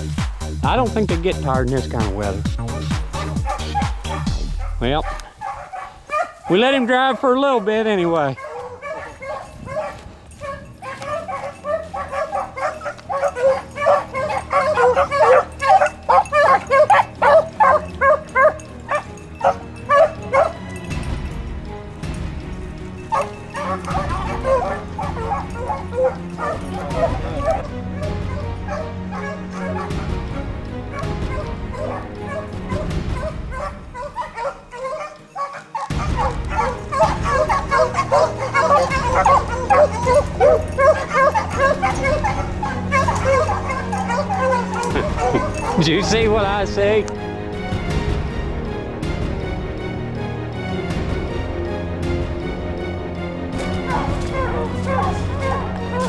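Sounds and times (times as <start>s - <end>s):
hounds baying: 0.0s - 56.0s.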